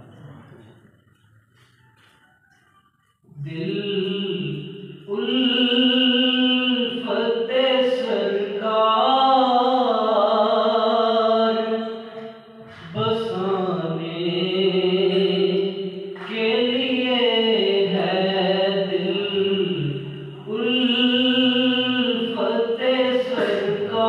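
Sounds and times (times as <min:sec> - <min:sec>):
man reciting through loudspeakers: 0:03.3 - 0:24.0.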